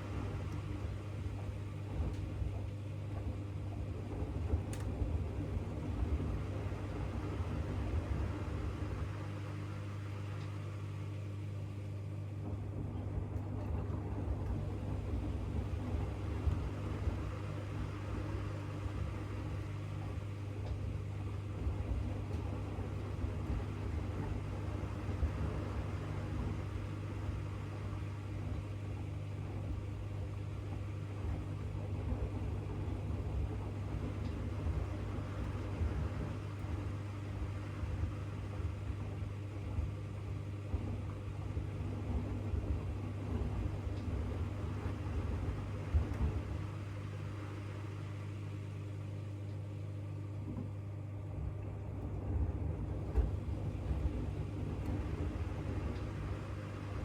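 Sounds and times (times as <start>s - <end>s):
washing machine drum rumbling: 0.0s - 9.3s, 12.1s - 48.0s, 48.8s - 57.0s
washing machine motor hum: 0.0s - 57.0s.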